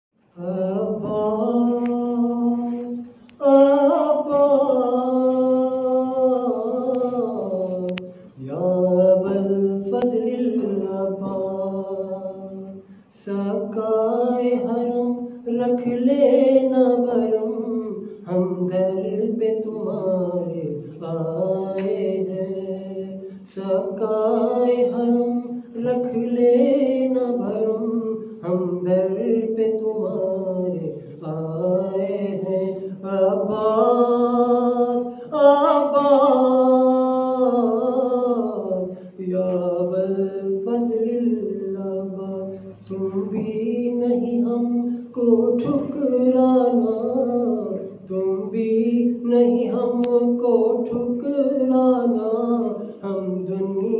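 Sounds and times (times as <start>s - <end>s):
man chanting unaccompanied: 0.3s - 53.9s.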